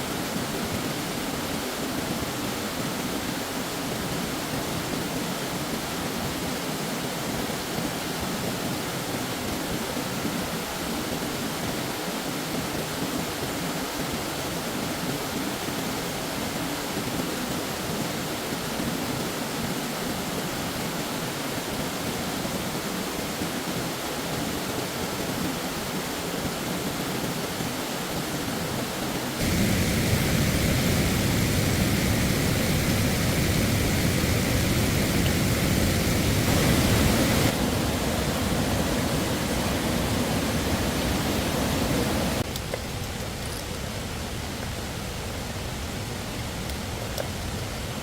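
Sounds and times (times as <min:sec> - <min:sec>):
stream water rushing: 0:00.0 - 0:44.5.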